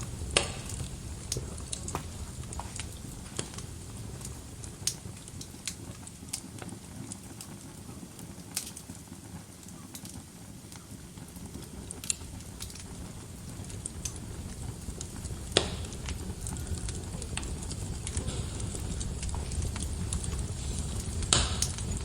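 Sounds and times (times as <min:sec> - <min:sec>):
low rumble of burning: 0:00.0 - 0:22.0
wood fire crackling: 0:00.0 - 0:22.0.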